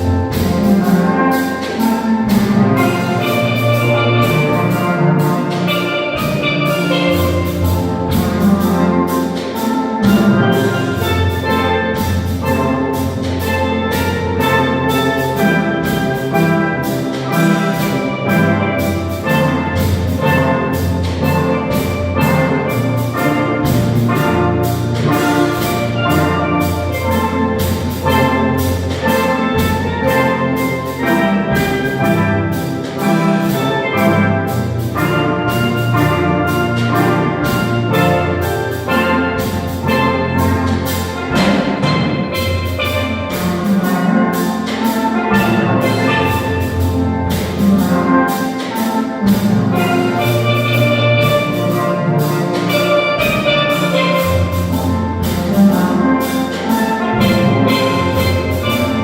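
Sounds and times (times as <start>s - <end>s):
bass line and backing: 0.0s - 59.0s
steel drum melody: 0.0s - 59.0s.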